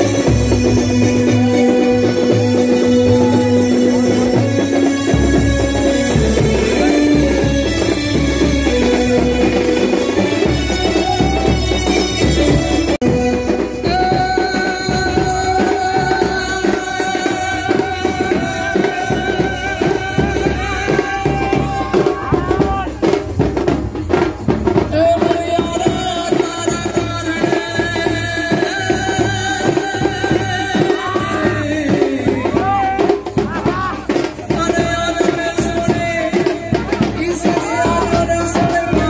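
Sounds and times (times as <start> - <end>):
person singing: 0.0 - 23.2, 24.8 - 39.0
folk music over loudspeaker: 0.0 - 39.0
steady drum beat: 0.0 - 39.0.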